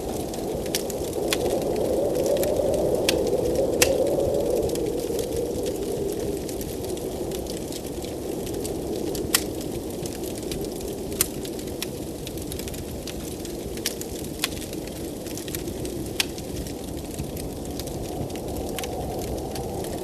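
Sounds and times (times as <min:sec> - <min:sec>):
blizzard wind rushing: 0:00.0 - 0:20.0
wood fire crackling and popping: 0:00.0 - 0:20.0.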